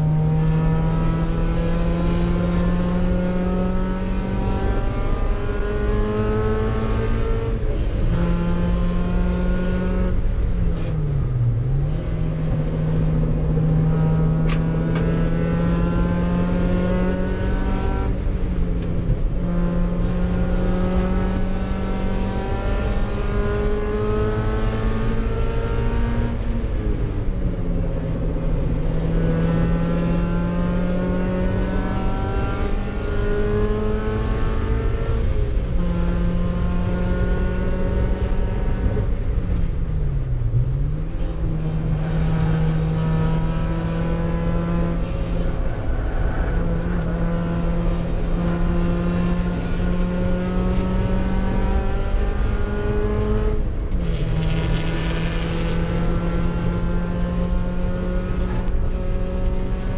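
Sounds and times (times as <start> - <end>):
race car engine at high revs: 0.0 - 59.9.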